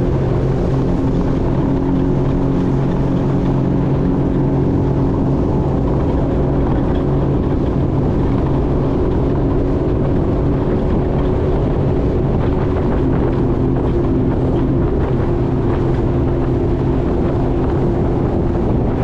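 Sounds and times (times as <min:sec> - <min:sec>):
jet ski engine droning: 0:00.0 - 0:19.0.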